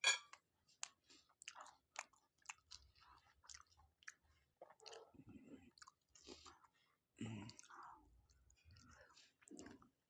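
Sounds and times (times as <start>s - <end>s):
faint chewing of food: 0.2s - 10.0s.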